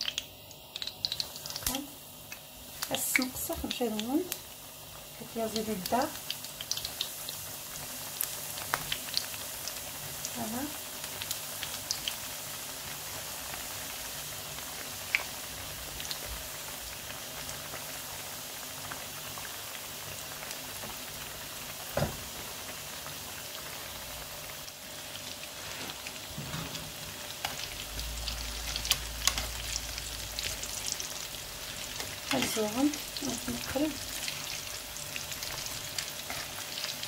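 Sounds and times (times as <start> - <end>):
deep-frying sizzle with pops: 0.0 - 37.0.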